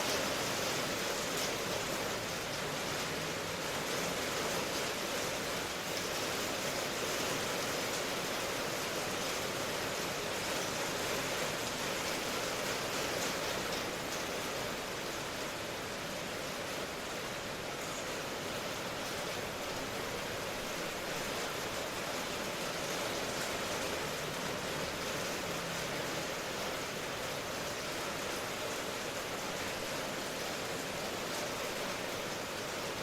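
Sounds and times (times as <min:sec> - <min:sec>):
steady rainfall: 0:00.0 - 0:33.0.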